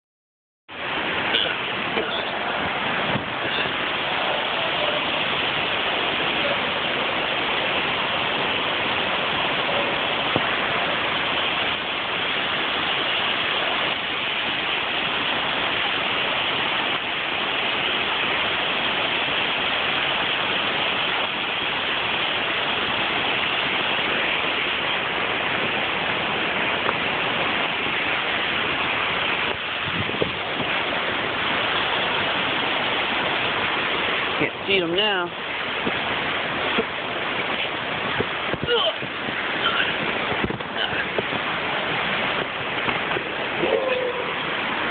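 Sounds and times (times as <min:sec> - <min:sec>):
waterfall rushing: 0:00.7 - 0:44.9.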